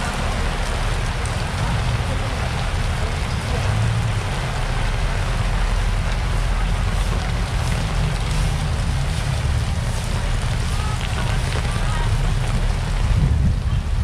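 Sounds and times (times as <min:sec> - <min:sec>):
heavy rain on pavement and tarpaulins: 0:00.0 - 0:14.0.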